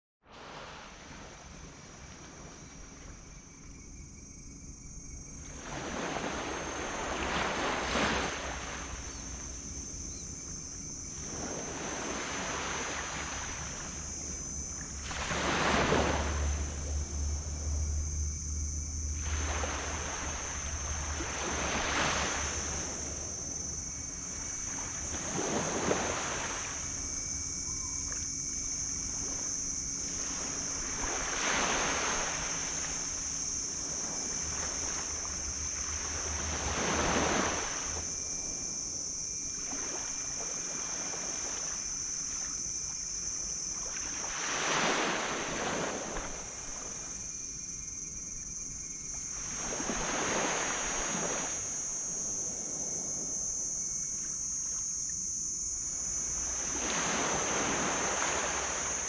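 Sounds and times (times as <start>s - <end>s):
waves breaking on a beach: 0.3s - 3.2s, 5.4s - 17.8s, 18.9s - 59.0s
high-pitched whine: 2.0s - 59.0s.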